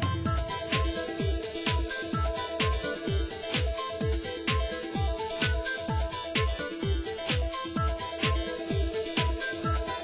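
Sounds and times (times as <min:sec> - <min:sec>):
kick-drum beat: 0:00.0 - 0:10.0.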